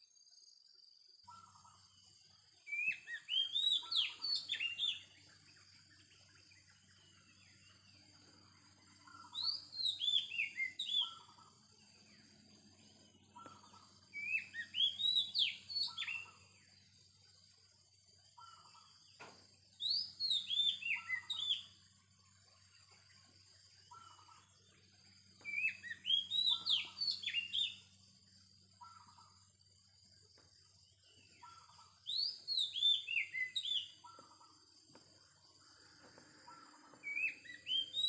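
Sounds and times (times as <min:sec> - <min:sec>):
bird singing whistled notes: 0:01.2 - 0:29.5, 0:30.9 - 0:34.6, 0:35.5 - 0:38.0.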